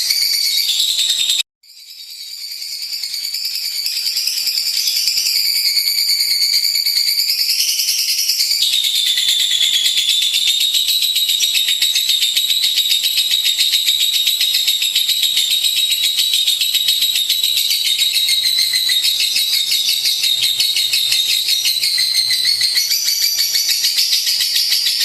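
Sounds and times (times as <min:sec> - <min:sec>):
lovebird chattering trill: 0:00.0 - 0:01.4, 0:03.0 - 0:25.0.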